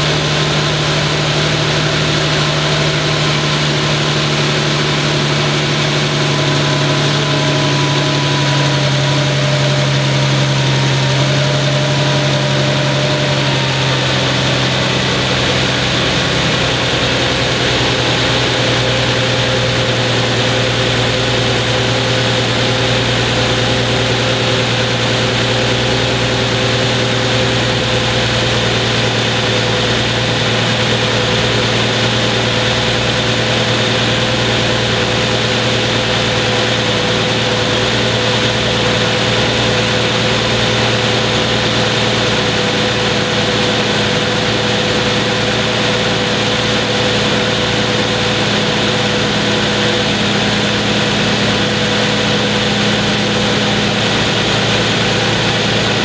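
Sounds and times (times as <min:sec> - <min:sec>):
car engine idling with ticking: 0:00.0 - 0:56.0.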